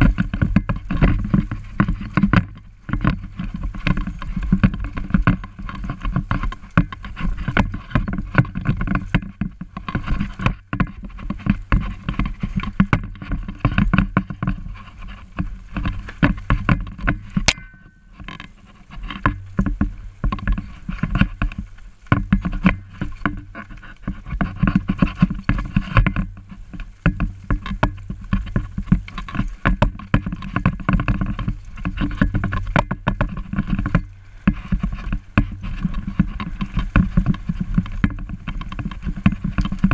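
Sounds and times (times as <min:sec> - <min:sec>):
bike rattling over rough trail: 0:00.0 - 0:39.9.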